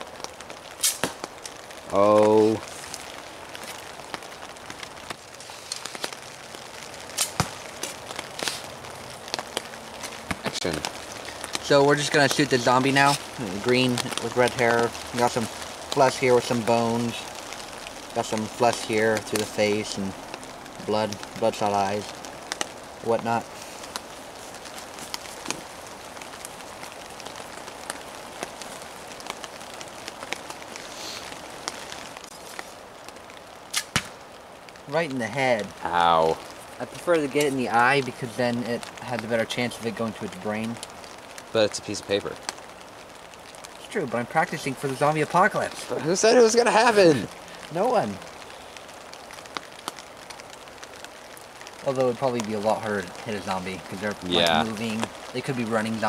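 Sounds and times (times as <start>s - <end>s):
raindrops ticking: 0.0s - 56.0s
steady rain hiss: 0.0s - 56.0s.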